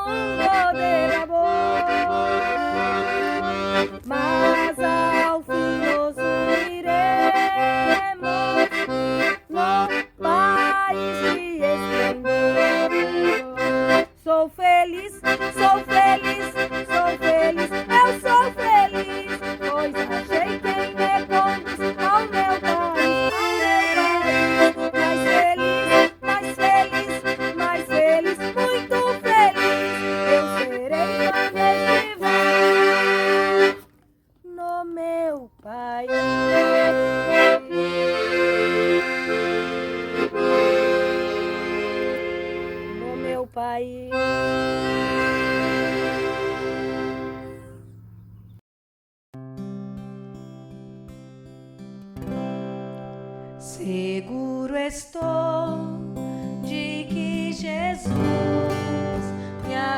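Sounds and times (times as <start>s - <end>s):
accordion playing hymn melody: 0.0s - 34.0s, 36.0s - 47.9s, 55.7s - 59.9s.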